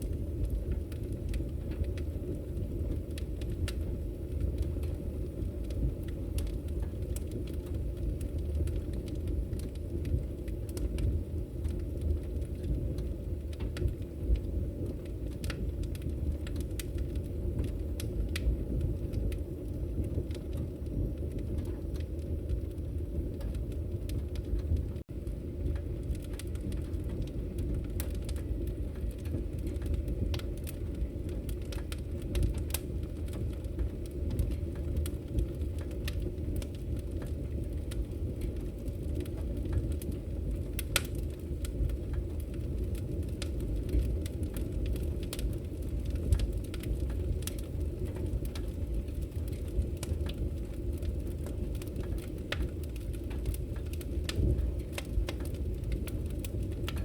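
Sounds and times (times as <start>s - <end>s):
firewood burning with crackles: 0.0s - 57.0s.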